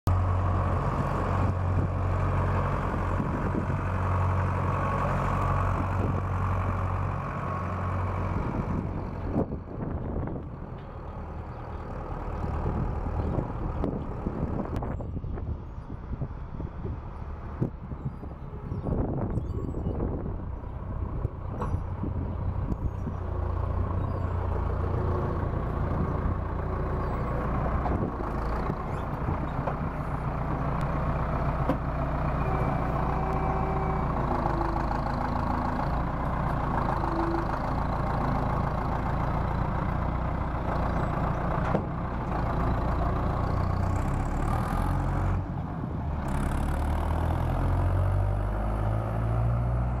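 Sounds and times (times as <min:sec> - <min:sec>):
tractor engine running: 0:00.1 - 0:50.0.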